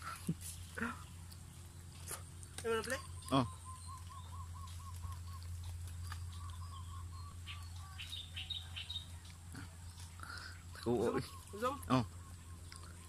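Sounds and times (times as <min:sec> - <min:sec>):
low steady hum: 0:00.0 - 0:13.0
bird calling: 0:02.0 - 0:13.0.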